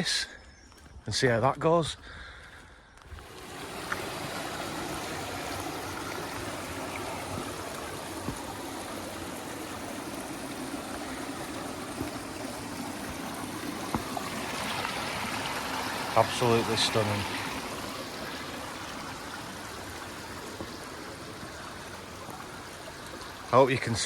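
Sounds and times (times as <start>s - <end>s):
stream flowing over stones: 3.1s - 24.0s.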